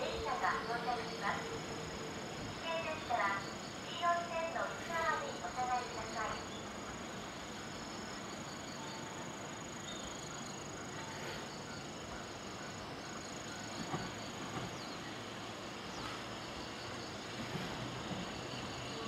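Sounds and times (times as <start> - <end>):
insects pulsing chirps: 0.0 - 19.0.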